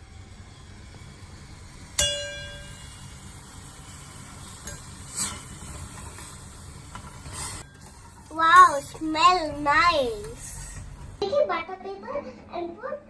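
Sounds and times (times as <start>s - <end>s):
kitchen background noise: 1.0s - 13.0s.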